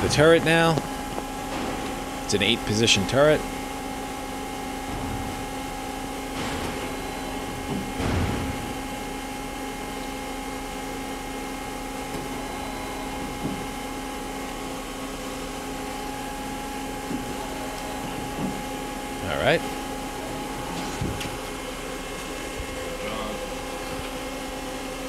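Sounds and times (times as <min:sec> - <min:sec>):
lathe running with steady hum: 0:00.0 - 0:25.0.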